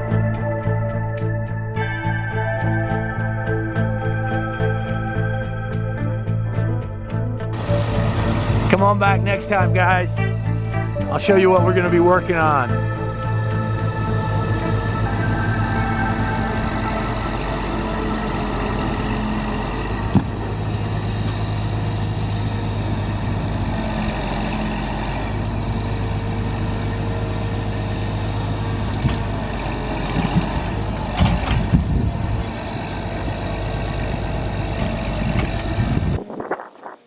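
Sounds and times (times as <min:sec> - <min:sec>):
heavy truck engine running: 0:00.0 - 0:36.3.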